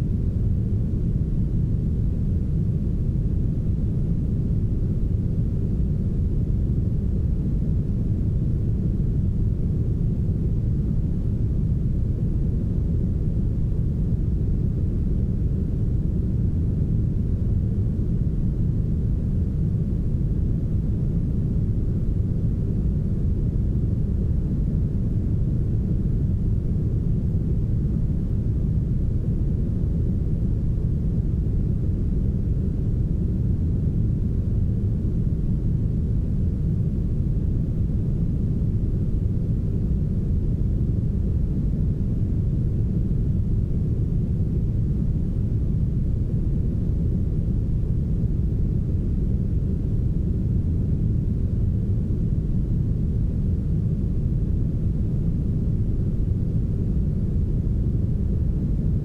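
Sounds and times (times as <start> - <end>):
brown noise low rumble: 0.0 - 59.0.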